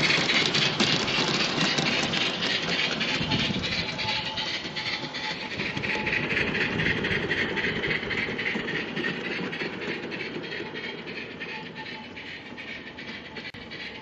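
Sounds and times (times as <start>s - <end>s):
wheels clicking on rails: 0.0s - 14.0s.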